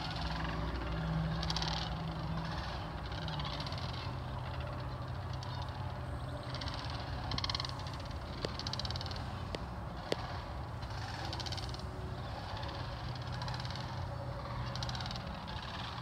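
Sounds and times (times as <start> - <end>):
cranes calling: 0.0 - 16.0
steady low hum: 0.0 - 16.0.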